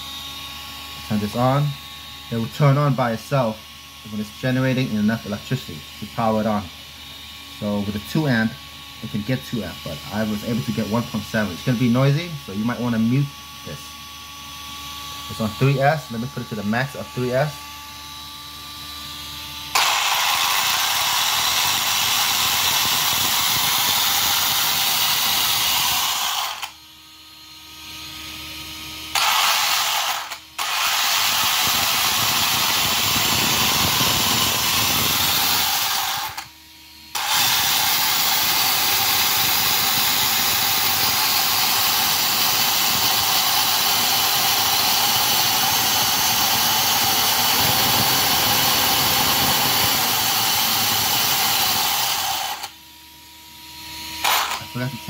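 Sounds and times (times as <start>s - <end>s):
electric motor and gears whirring: 0.0s - 55.0s.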